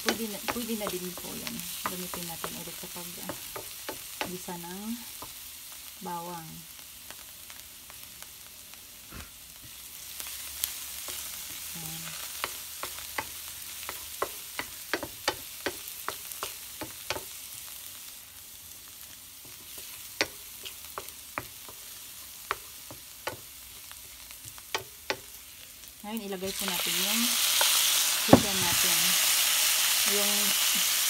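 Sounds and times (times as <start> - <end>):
garlic sizzling in oil: 0.0 - 31.0.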